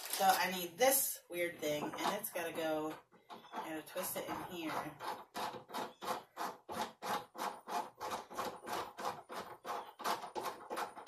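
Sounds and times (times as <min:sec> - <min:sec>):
threaded connector scraping: 0:01.7 - 0:11.0.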